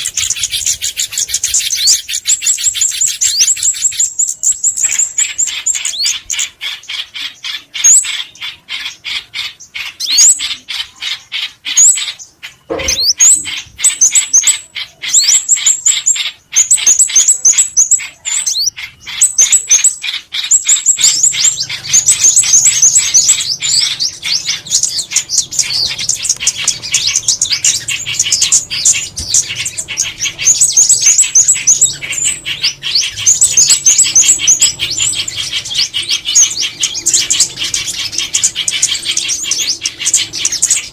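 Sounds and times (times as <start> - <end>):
recorded songbird chirps: 0.0 - 40.9.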